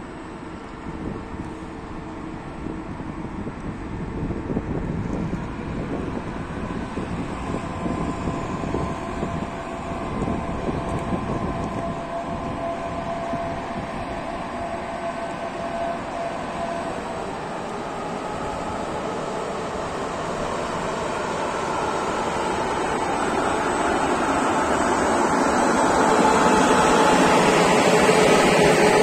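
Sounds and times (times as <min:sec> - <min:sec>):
electric locomotive rumbling: 0:00.0 - 0:29.0
faint locomotive whine: 0:00.0 - 0:29.0.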